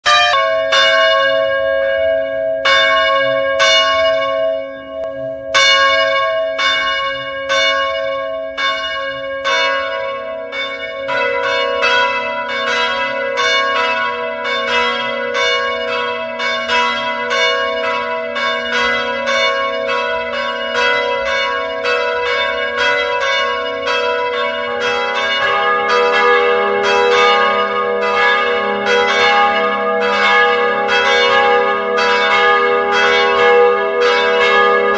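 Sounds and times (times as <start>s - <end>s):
church bells ringing: 0.0s - 34.9s
lower-pitched bells: 0.0s - 34.9s.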